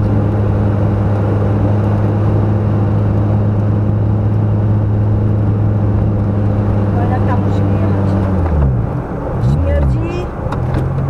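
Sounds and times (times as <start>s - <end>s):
car engine at steady revs: 0.0s - 11.0s
tyre and road noise: 0.0s - 11.0s.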